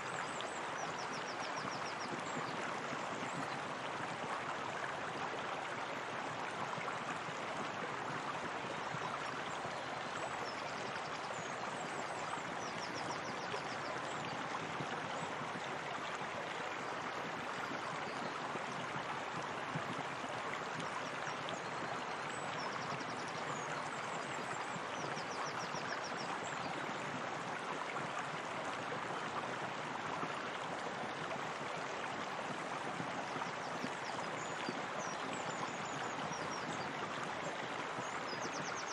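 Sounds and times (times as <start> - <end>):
bubbling water: 0.1 - 38.9.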